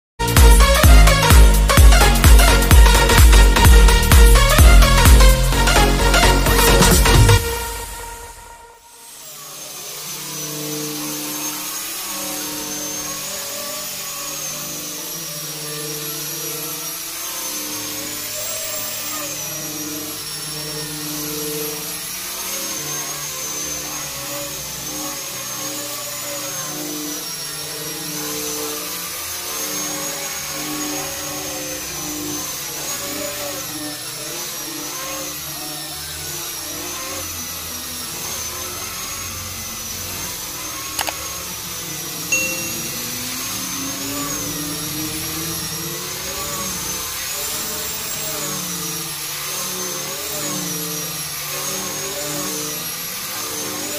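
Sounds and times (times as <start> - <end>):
angle grinder sanding wood: 0.2 - 53.9.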